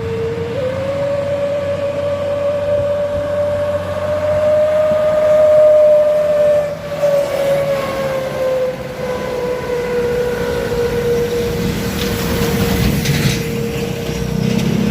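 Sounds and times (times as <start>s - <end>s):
truck engine whining uphill: 0.0s - 14.9s.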